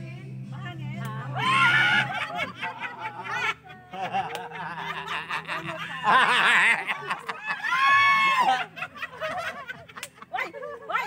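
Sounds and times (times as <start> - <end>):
women laughing and chattering: 1.3 - 11.0.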